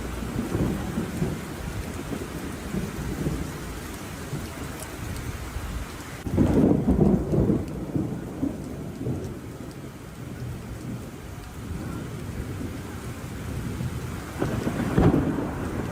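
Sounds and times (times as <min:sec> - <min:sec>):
steady rain: 0:00.0 - 0:15.9
thunder rumbling: 0:00.0 - 0:15.9.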